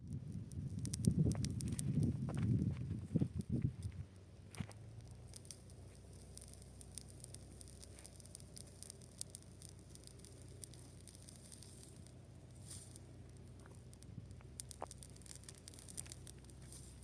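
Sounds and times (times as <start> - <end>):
dry grass crackling: 0.1 - 17.0.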